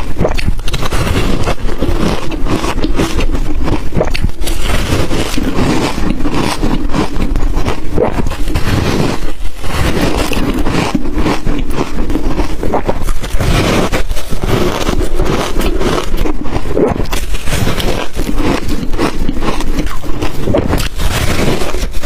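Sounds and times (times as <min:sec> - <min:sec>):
ice crunching in mouth: 0:00.0 - 0:22.0.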